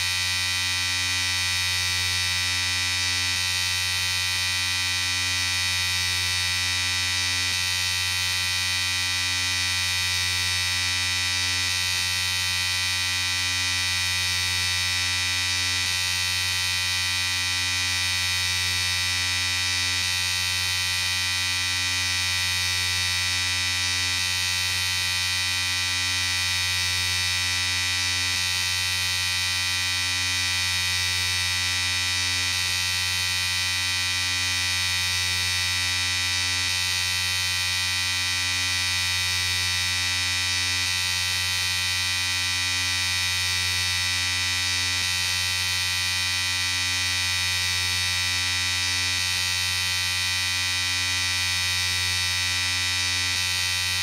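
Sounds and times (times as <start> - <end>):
electric shaver buzzing: 0.0 - 54.0.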